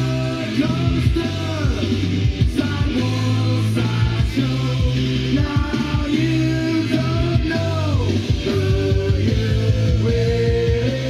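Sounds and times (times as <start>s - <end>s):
rock song with singer: 0.0s - 11.0s.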